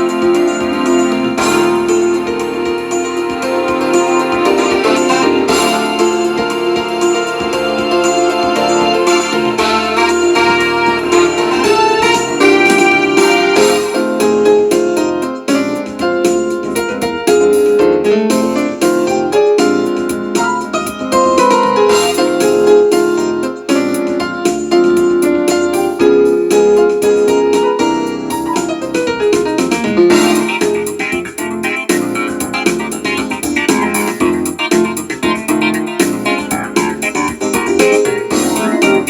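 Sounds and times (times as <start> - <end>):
piano background music: 0.0 - 39.0.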